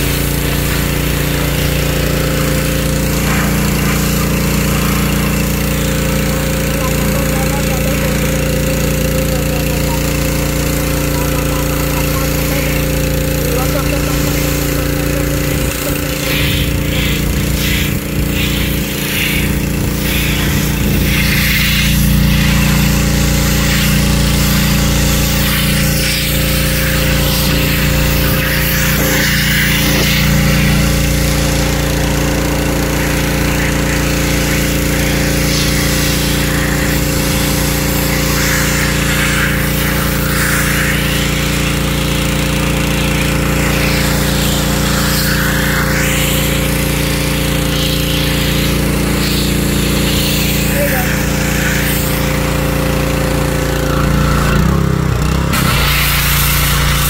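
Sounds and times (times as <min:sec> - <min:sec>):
pressure washer motor hum: 0:00.0 - 0:57.0
water spray hissing: 0:00.0 - 0:57.0.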